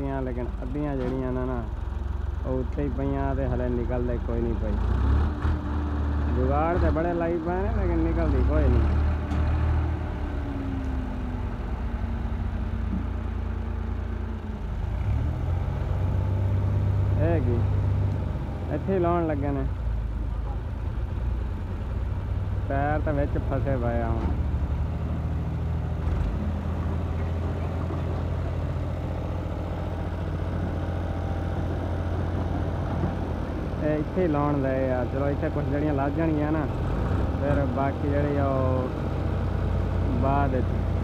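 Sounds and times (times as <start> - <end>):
tractor diesel engine idling: 0.0 - 15.0, 15.6 - 41.0.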